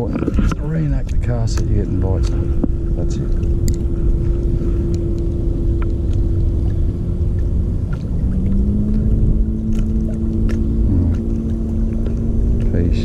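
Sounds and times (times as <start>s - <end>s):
motorboat engine rumbling: 0.0s - 13.0s.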